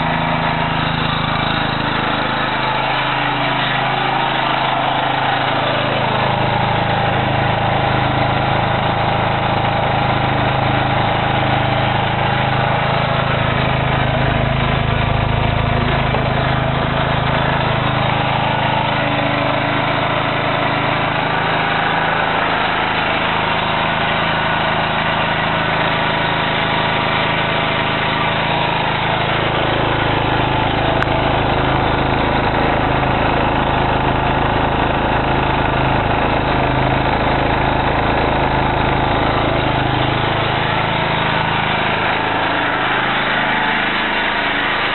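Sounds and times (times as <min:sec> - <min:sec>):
generator engine running: 0:00.0 - 0:44.9.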